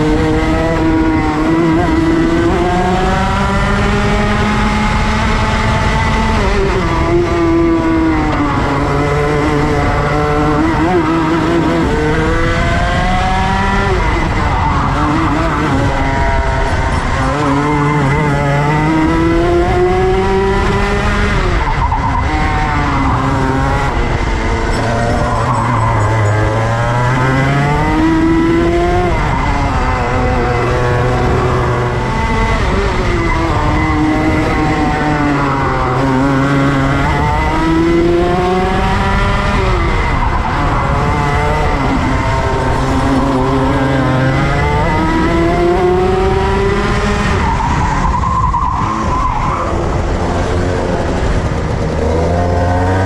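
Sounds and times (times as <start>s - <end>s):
go-kart engine accelerating: 0.0s - 53.0s.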